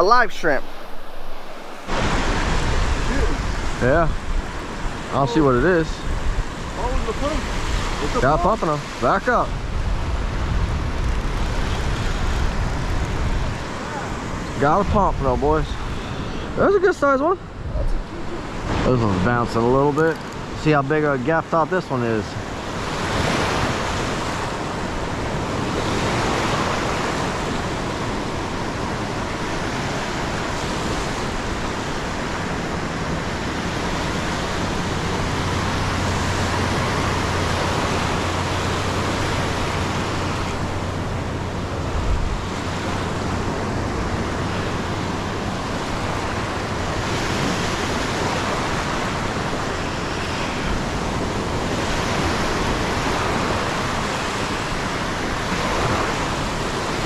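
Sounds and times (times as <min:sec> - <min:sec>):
wind rumbling on microphone: 0:00.0 - 0:21.3, 0:22.1 - 0:57.0
surf breaking on beach: 0:00.0 - 0:57.0.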